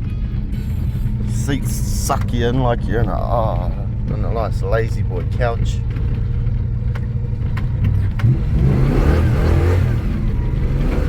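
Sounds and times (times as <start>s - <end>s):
engine rumbling and revving: 0.0s - 11.0s.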